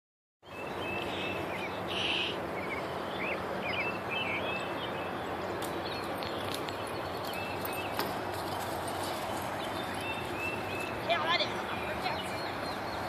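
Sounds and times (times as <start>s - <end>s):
outdoor background hiss: 0.4s - 13.0s
small birds chirping: 0.4s - 13.0s.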